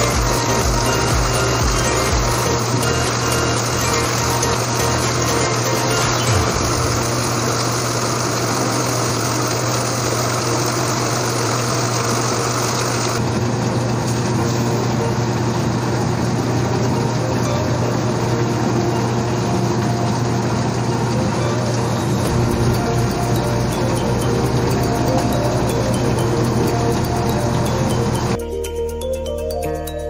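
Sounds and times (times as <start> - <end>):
heavy rain hissing: 0.0 - 28.3.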